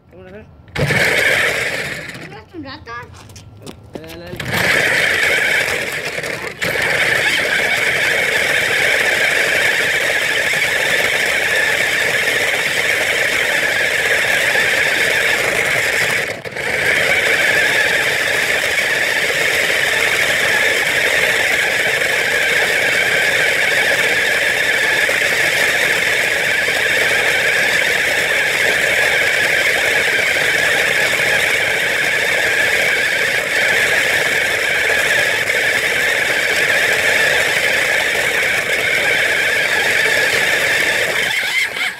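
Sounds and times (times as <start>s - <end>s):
wheels rolling over ground: 0.3s - 2.4s, 3.1s - 41.9s
toy car motor whirring: 0.7s - 2.6s, 3.2s - 41.9s.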